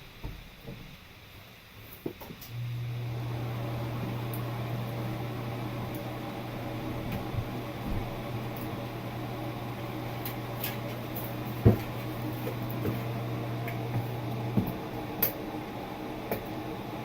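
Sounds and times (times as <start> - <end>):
exhaust fan humming: 2.4 - 17.0.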